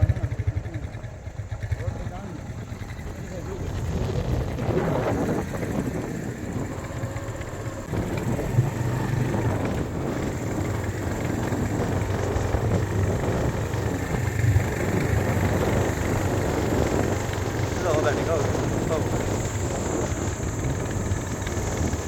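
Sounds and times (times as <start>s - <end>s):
road noise: 0.0s - 22.0s
vehicle engine drone: 0.0s - 22.0s.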